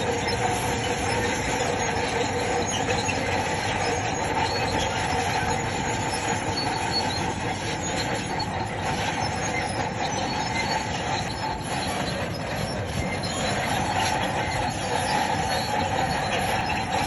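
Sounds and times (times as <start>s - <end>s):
bulldozer diesel engine under load: 0.0s - 17.0s
steel tracks squealing and clanking: 0.0s - 17.0s.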